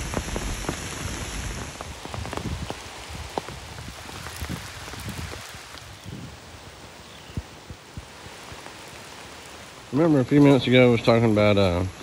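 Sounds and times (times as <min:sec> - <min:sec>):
raindrops ticking nearby: 0:00.0 - 0:12.0
steady rain in woods: 0:00.0 - 0:12.0.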